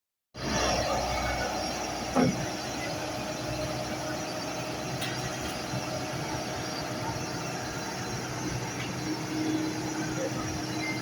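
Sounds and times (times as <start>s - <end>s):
heavy diesel engine running: 0.4s - 11.0s.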